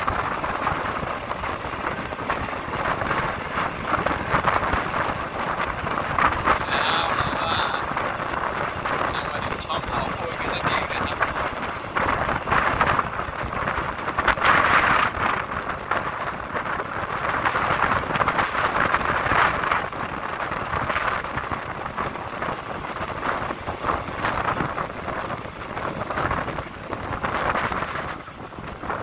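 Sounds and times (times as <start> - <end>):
train wheels rushing on rail: 0.0 - 29.0
wind buffeting microphone: 0.0 - 29.0.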